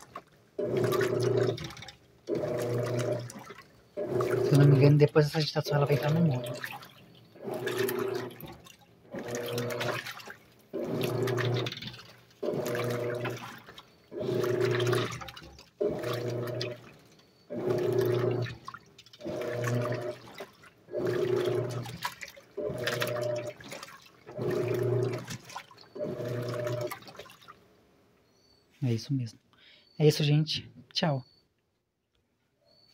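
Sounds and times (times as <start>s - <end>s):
washing machine motor humming: 0.0s - 27.5s
water sloshing: 0.0s - 27.8s.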